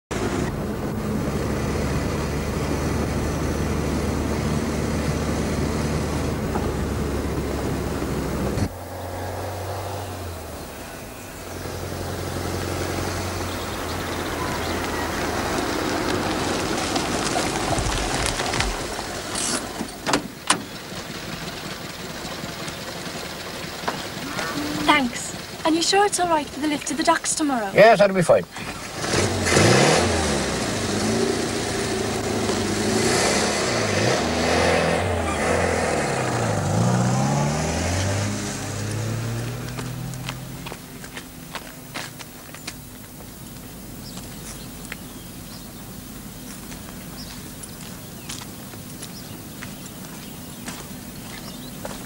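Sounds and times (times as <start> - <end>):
car engine and road noise: 0.1 - 52.0.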